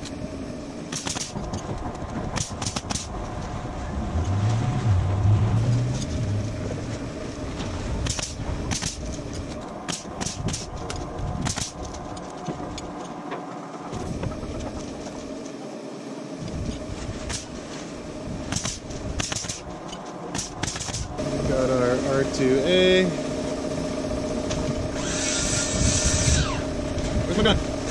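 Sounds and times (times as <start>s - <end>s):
mechanical drone: 0.0s - 27.9s.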